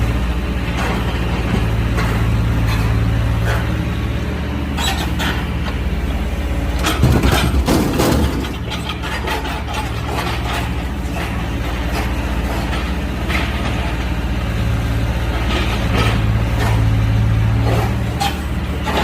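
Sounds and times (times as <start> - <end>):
excavator diesel engine running: 0.0 - 19.0
knocks and clatter of logs: 0.6 - 3.8, 4.8 - 19.0.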